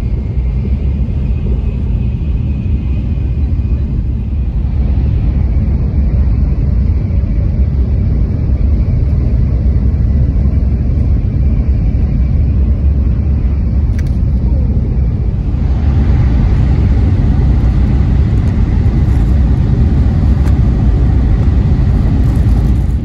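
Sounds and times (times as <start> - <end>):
high-speed train rumble: 0.0 - 23.0.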